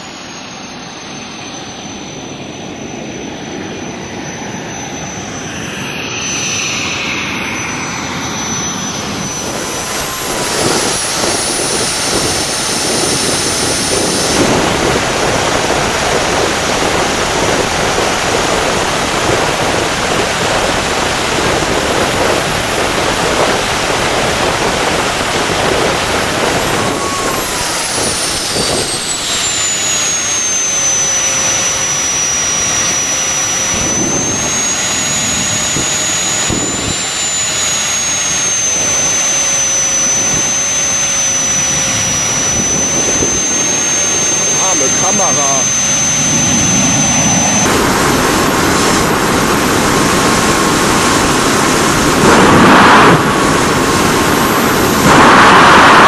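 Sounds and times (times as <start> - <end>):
jet engine roar: 0.0 - 56.0
turbine whine: 0.0 - 56.0.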